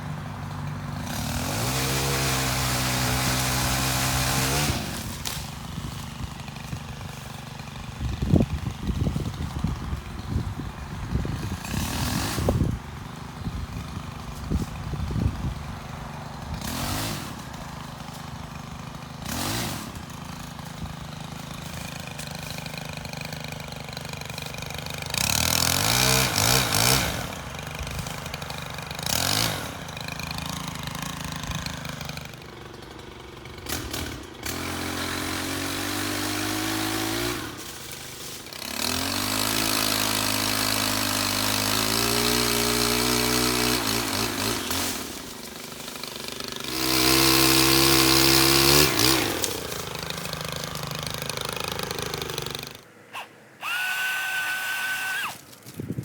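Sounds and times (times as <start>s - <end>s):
engine revving: 0.0s - 52.8s
pole saw engine idling: 0.0s - 55.6s.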